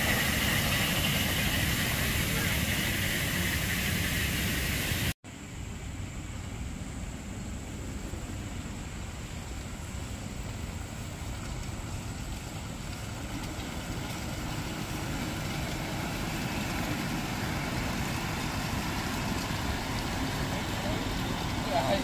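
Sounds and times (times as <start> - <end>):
ride-on train rumbling on track: 0.0 - 22.0.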